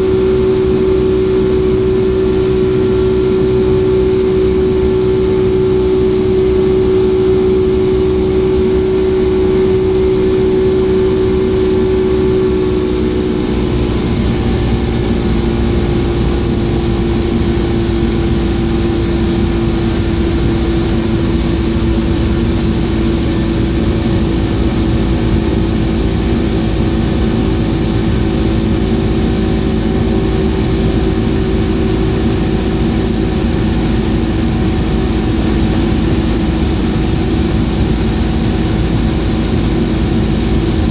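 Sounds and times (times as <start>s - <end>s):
outboard engine running: 0.0s - 40.9s.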